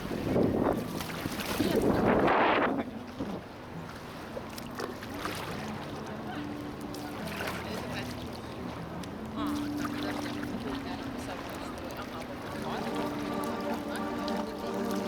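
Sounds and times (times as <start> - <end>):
faint paddle splashes: 0.0 - 15.0
water splashing around boat: 0.0 - 15.0.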